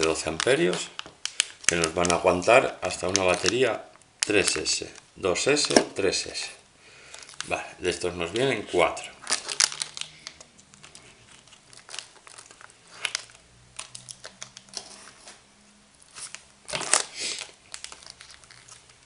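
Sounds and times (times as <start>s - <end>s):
plastic packets crinkling: 0.0s - 15.4s, 16.0s - 19.0s.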